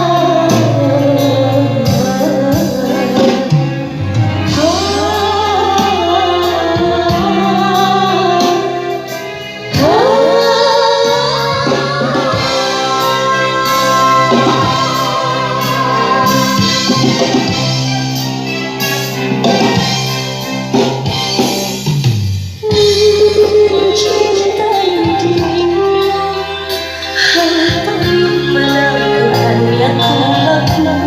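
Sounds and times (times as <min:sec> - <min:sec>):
music with singer over pa: 0:00.0 - 0:31.0.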